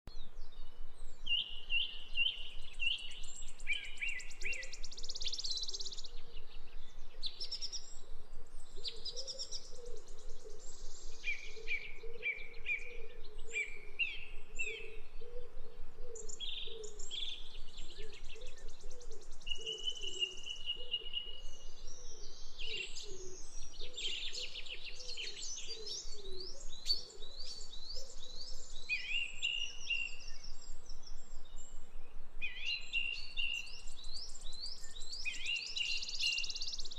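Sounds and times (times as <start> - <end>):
songbirds singing and chirping: 0.1 - 36.9.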